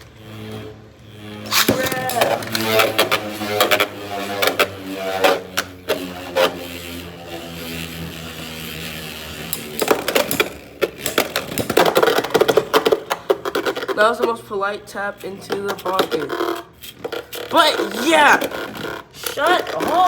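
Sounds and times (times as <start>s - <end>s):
spinning tops whirring: 0.0s - 20.0s.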